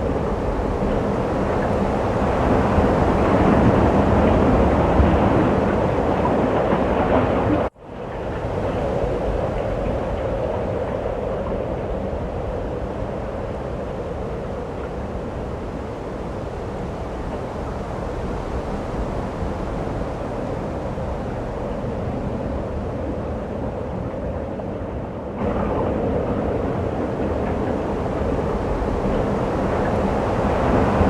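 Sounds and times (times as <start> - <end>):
storm wind blowing: 0.0 - 31.0.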